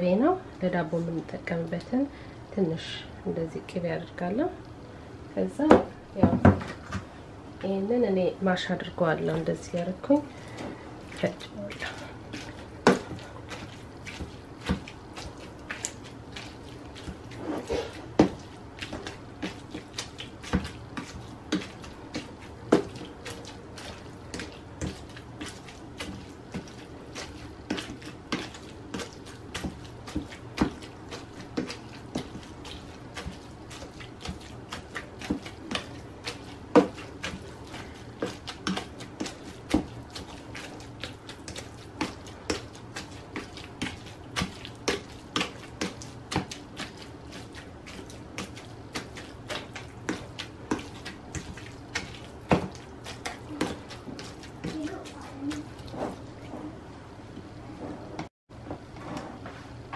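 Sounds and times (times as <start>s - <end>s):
soft mashing of vegetables: 0.0s - 59.7s.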